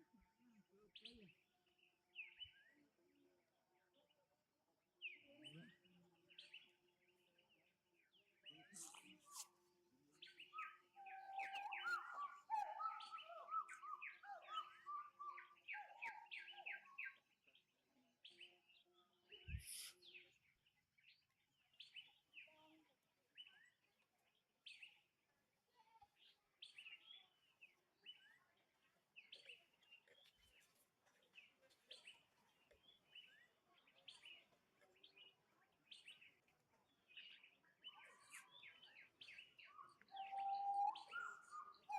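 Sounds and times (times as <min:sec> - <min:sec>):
rapid repeated bird song: 0:00.0 - 0:03.0, 0:05.0 - 0:41.9
faint birds chirping: 0:05.0 - 0:41.9.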